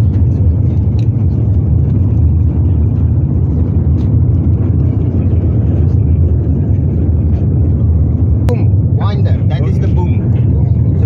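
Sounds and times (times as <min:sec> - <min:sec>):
low machinery engine drone: 0:00.0 - 0:11.0.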